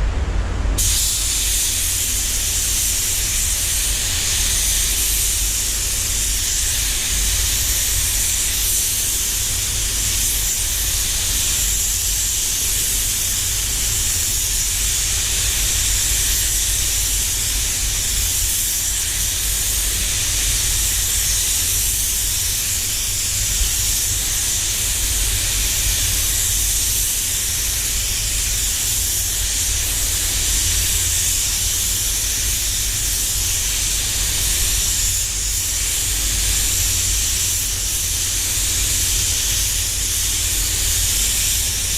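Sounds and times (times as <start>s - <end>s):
spray gun hissing: 0.8s - 41.9s.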